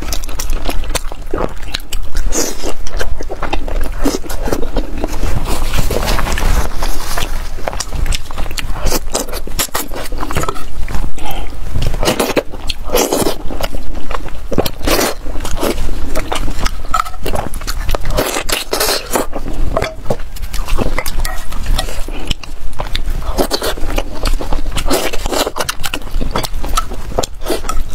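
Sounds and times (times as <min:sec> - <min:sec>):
mouth chewing wet smacks: 0:00.0 - 0:05.2, 0:06.4 - 0:27.9.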